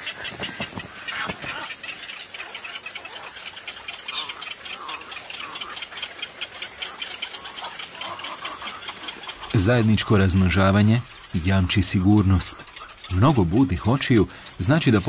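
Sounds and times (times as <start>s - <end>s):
bird calls: 0.0s - 15.0s
nestlings begging clatter: 2.3s - 15.0s.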